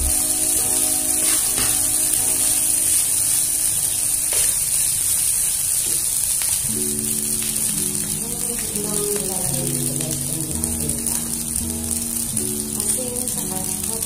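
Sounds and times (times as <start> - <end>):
background music: 0.0 - 5.2, 6.7 - 14.0
rice sizzling in a pan: 0.0 - 14.0.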